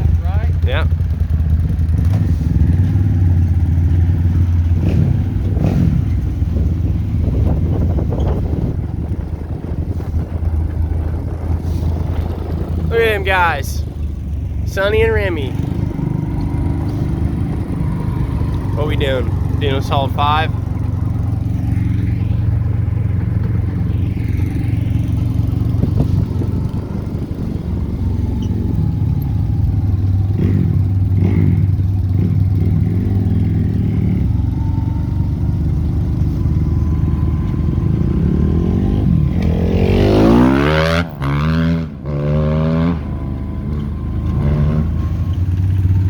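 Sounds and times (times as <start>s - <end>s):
vehicle engine from inside cab: 0.0s - 46.0s.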